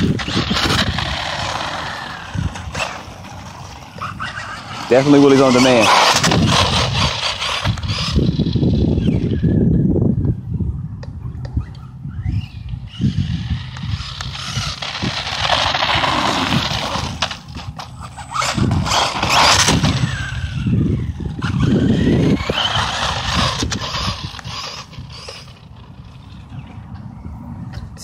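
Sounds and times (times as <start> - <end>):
electric motor whine: 0.0 - 9.6, 11.6 - 26.7
tyre noise on asphalt: 0.0 - 10.4, 12.6 - 28.0.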